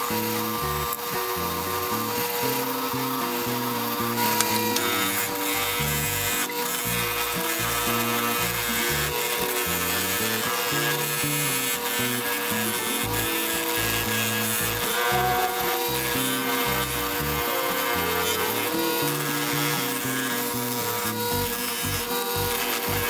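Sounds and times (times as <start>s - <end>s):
motor hum: 0.0s - 23.0s
wire wheel scraping metal: 2.1s - 23.0s.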